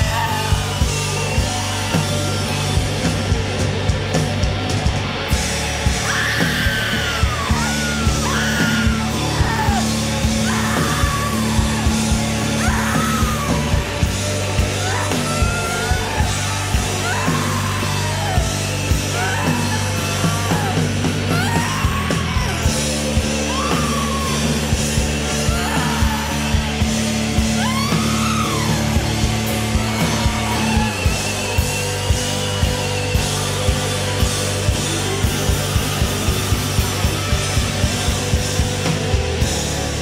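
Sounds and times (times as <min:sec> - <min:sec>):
bass and guitar chords: 0:00.0 - 0:40.0
rock drum beat: 0:00.0 - 0:40.0
singer yelling and screaming: 0:00.0 - 0:40.0.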